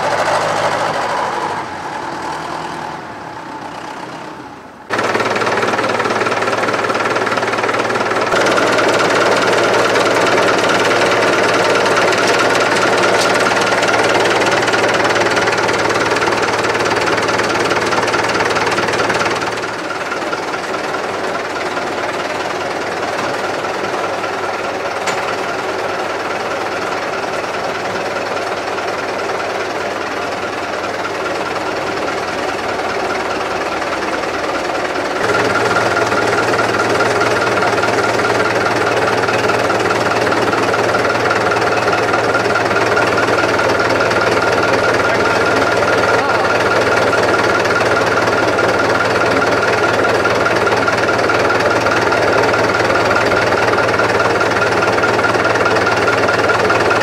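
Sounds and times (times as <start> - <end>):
diesel tractor engine idling: 0.0 - 57.0
tractor driving away: 0.0 - 57.0.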